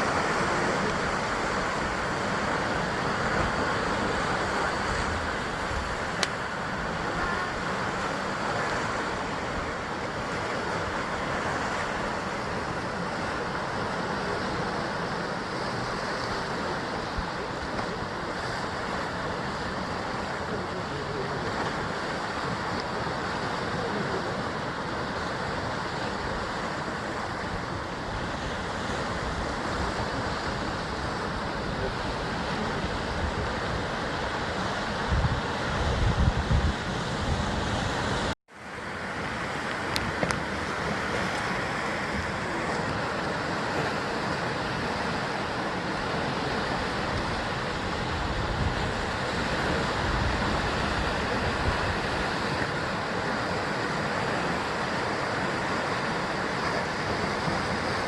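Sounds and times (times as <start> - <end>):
sea waves against rocks: 0.0 - 58.0.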